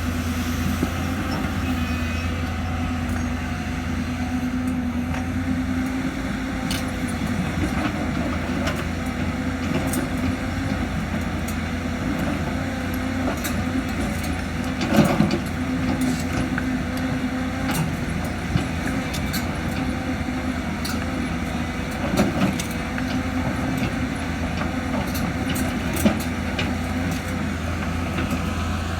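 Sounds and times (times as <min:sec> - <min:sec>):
heavy diesel engine running: 0:00.0 - 0:28.9.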